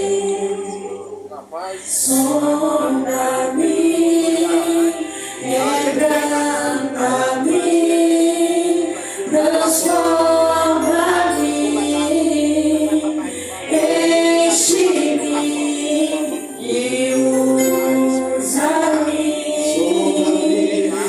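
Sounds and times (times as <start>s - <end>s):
instrumental accompaniment: 0.0s - 21.0s
worship song with long held notes: 0.0s - 21.0s.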